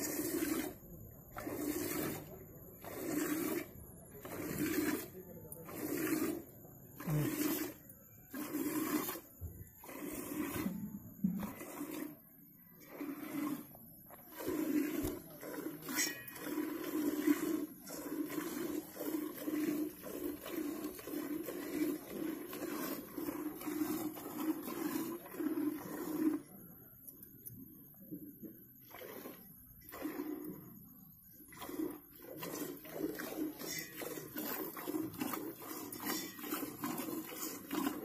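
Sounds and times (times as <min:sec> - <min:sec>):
milk squirting into steel pot: 0:00.0 - 0:26.5, 0:31.4 - 0:38.0.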